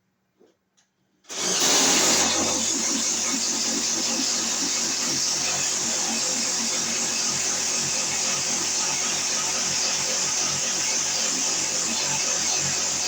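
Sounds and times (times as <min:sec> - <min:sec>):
power drill boring: 0:01.3 - 0:13.0.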